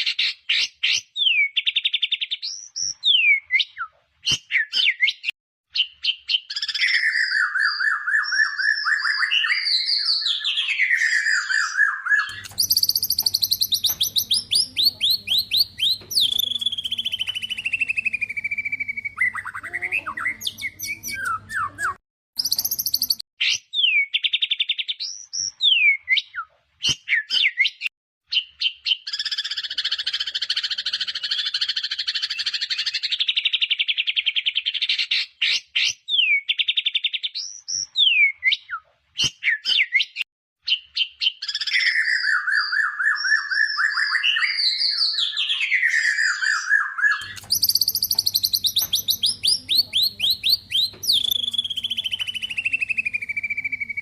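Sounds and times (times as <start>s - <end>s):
bird singing trills and whistles: 0.0s - 54.0s.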